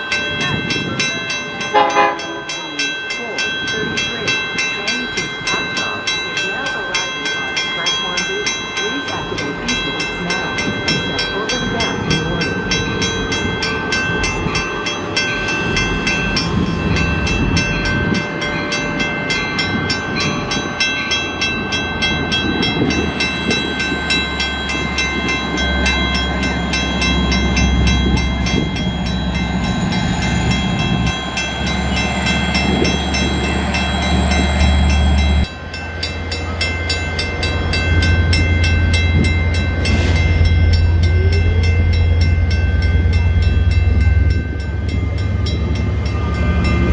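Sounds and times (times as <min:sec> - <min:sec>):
diesel locomotive engine rumble: 0:00.0 - 0:46.9
railroad crossing bell ringing: 0:00.0 - 0:46.9.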